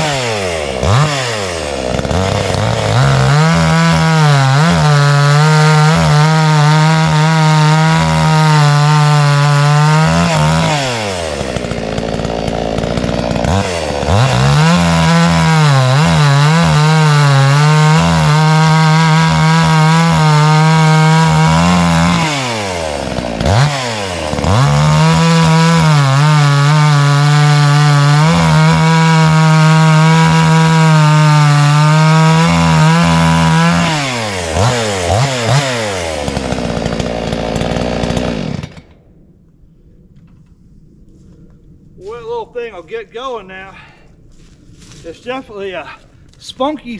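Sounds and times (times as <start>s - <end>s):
chainsaw cutting wood: 0.0s - 39.1s.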